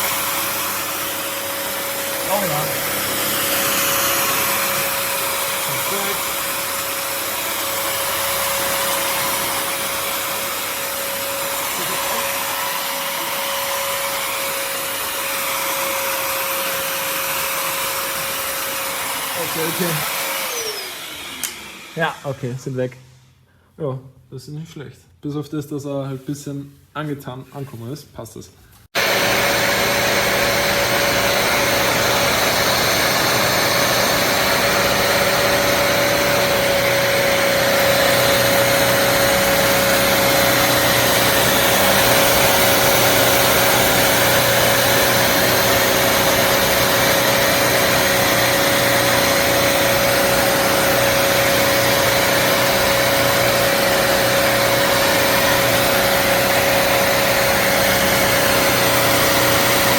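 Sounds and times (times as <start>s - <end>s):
wet-dry vacuum running: 0.0s - 22.6s, 29.0s - 59.9s.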